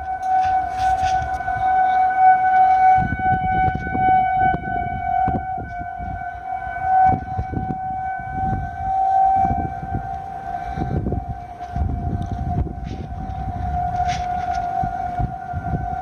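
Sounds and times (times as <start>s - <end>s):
tornado warning siren: 0.0s - 16.0s.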